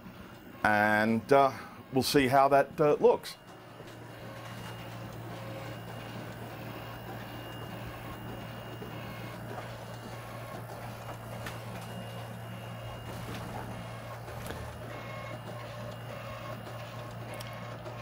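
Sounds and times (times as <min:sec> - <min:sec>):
constant hum: 0:00.0 - 0:18.0
printer carriage running: 0:00.0 - 0:18.0
paper feed clicks: 0:02.6 - 0:18.0.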